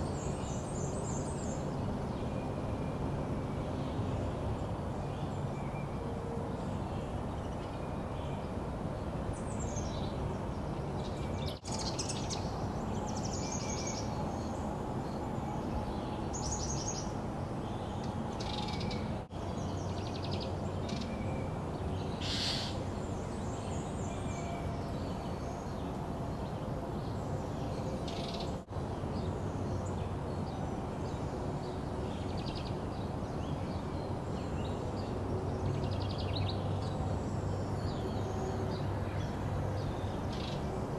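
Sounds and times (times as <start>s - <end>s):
songbirds chirping and trilling: 0.0s - 40.9s
steady background hiss: 0.0s - 40.9s.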